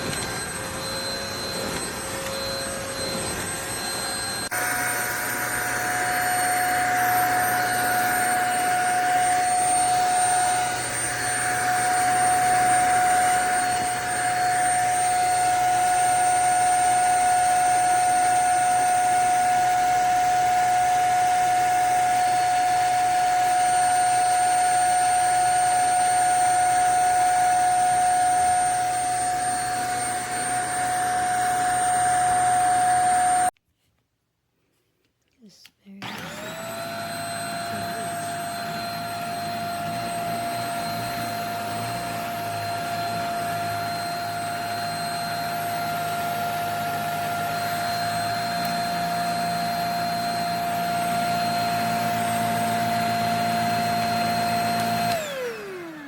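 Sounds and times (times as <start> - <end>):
vacuum cleaner motor whine: 0.0 - 33.6, 36.0 - 56.0.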